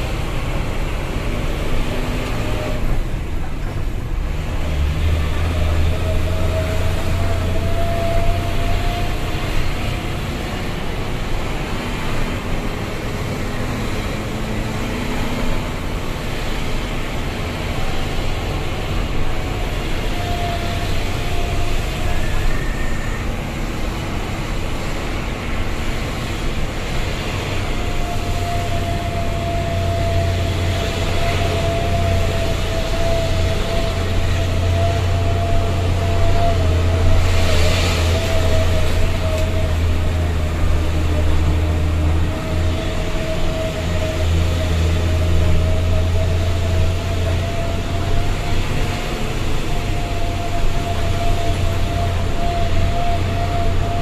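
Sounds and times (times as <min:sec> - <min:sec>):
road noise: 0:00.0 - 0:54.0
truck diesel engine rumble: 0:00.0 - 0:54.0.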